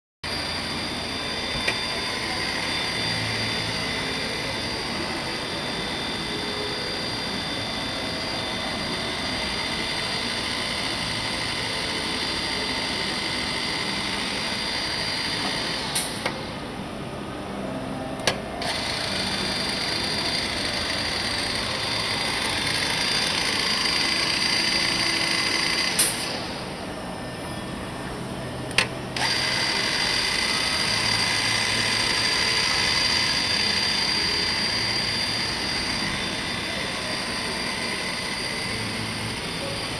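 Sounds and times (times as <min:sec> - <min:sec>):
wood cutting noise: 0:00.2 - 0:16.7, 0:17.6 - 0:27.3, 0:28.6 - 0:39.9
router spindle high whine: 0:00.2 - 0:39.9.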